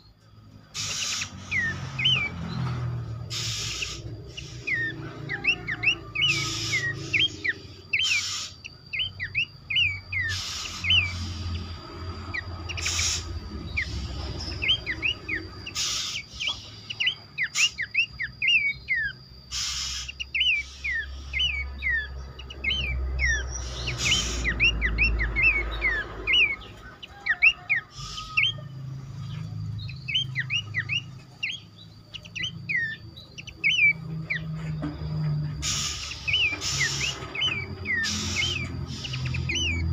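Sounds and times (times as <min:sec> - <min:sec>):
birds whistling calls: 0:00.0 - 0:39.9
sharp clicks of birds: 0:00.2 - 0:39.9.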